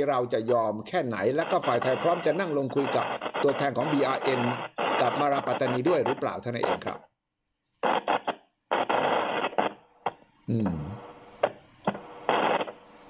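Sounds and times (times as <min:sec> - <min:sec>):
crackly noise bursts: 0:00.4 - 0:07.1, 0:07.7 - 0:10.4, 0:11.0 - 0:13.0.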